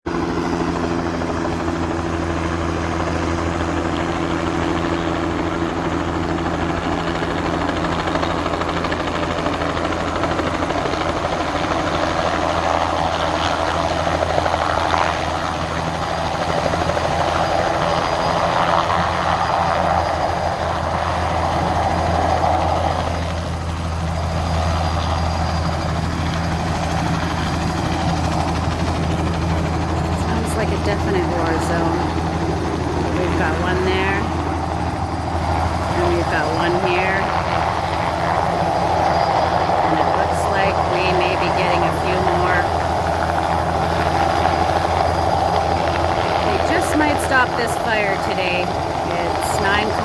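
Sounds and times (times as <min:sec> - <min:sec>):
helicopter rotor and engine drone: 0:00.0 - 0:50.0.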